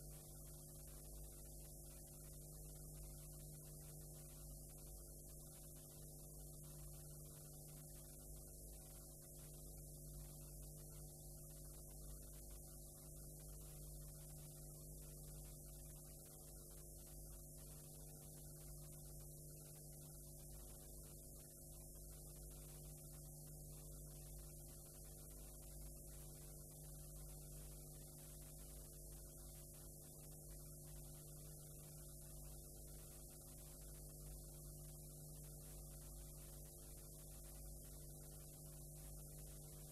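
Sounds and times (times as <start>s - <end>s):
faint electrical hum and hiss: 0.0s - 39.9s
faint pulsing tone: 0.0s - 39.9s.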